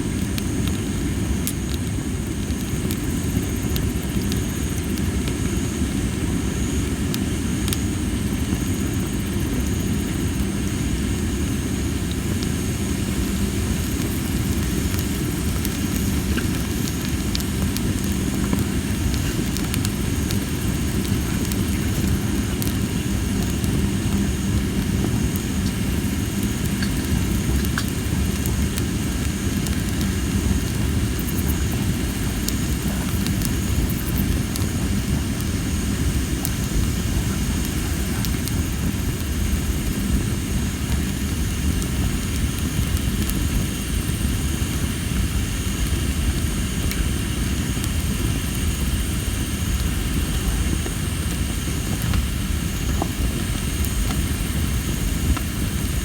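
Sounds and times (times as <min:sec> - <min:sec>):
fire low rumble: 0:00.0 - 0:56.0
firewood crackling: 0:00.0 - 0:56.0
insects chirping: 0:00.0 - 0:56.0.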